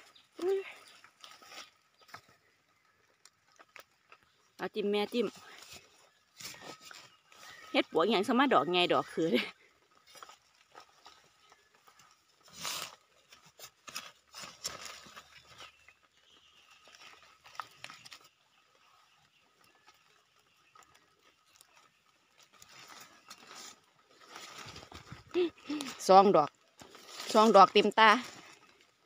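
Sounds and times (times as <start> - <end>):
dry leaves and soil rustling: 0.0 - 29.0.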